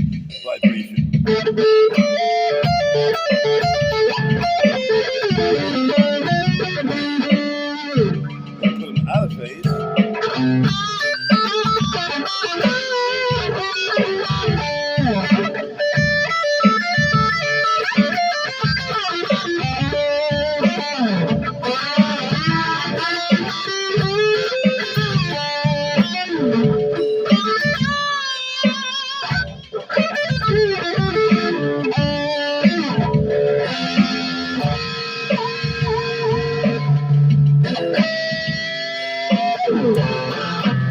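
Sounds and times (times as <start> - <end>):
electric guitar lead with pitch bends: 0.3 - 40.9.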